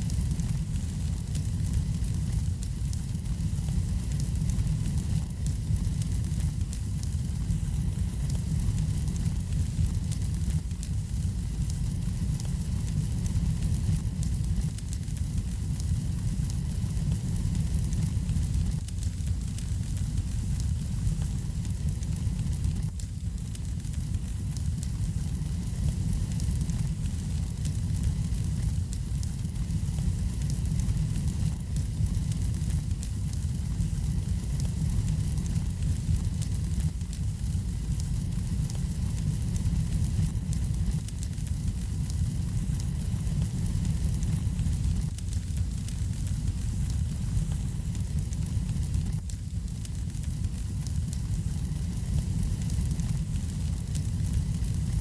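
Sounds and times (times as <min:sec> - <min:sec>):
faint fire crackles and pops: 0:00.0 - 0:55.0
fire flames rumbling: 0:00.0 - 0:55.0.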